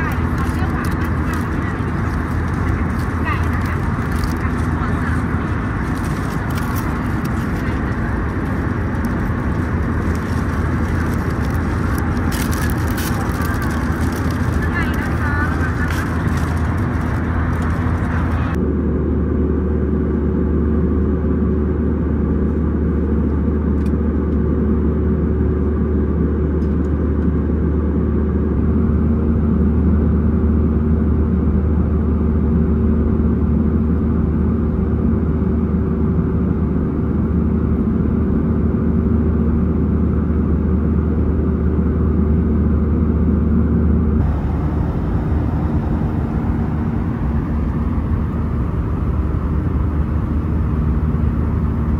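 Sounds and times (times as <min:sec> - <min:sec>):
aircraft cabin engine rumble: 0:00.0 - 0:51.9.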